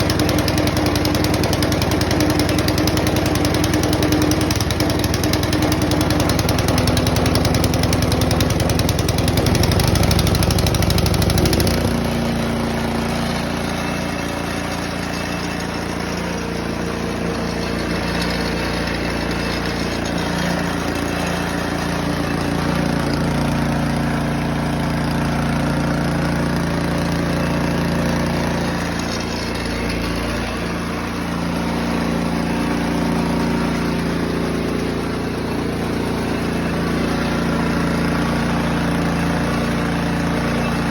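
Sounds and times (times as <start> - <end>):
small gas engine running: 0.0 - 40.9.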